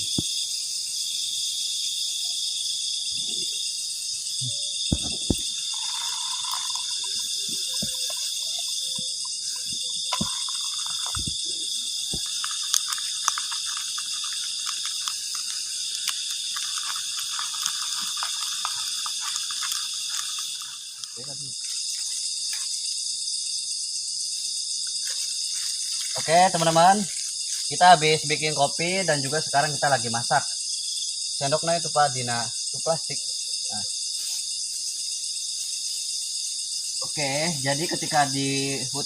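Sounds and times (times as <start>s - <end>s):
crickets and insects chirring: 0.0s - 39.0s.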